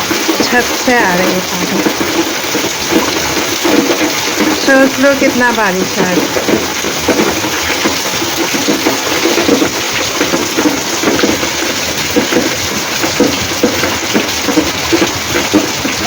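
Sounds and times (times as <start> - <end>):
rainwater gushing off a roof: 0.0 - 16.0.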